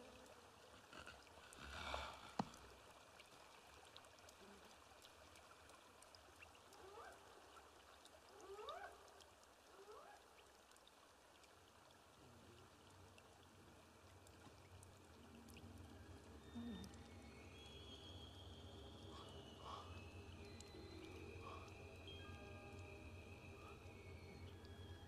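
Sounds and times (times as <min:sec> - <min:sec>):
faint trickling ambience: 0:00.0 - 0:25.0.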